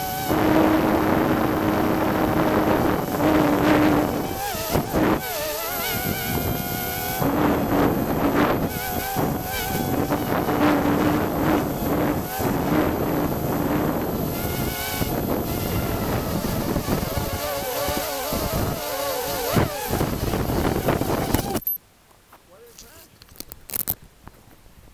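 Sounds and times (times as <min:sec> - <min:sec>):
quadcopter propellers buzzing: 0:00.0 - 0:21.8.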